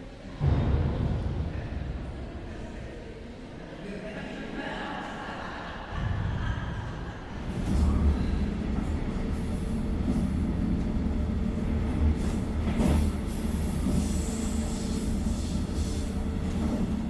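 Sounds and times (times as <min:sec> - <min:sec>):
train rumbling: 0:00.0 - 0:03.6, 0:05.7 - 0:17.0.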